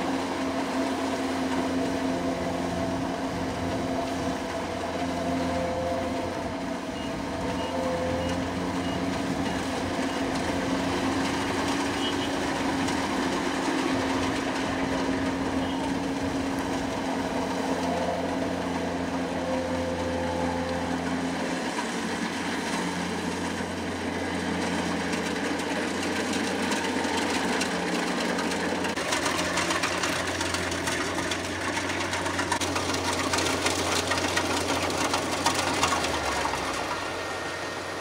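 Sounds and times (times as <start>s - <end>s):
diesel engine running steadily: 0.0s - 38.0s.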